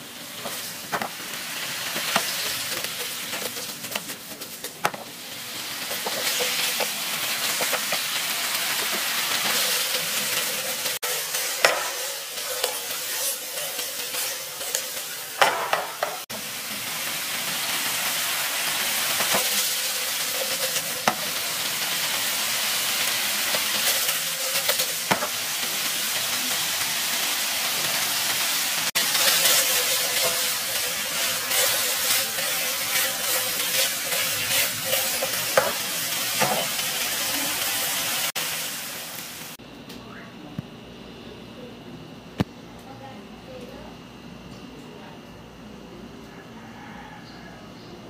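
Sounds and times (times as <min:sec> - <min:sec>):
chicken sizzling in frying pan: 0:00.0 - 0:39.6.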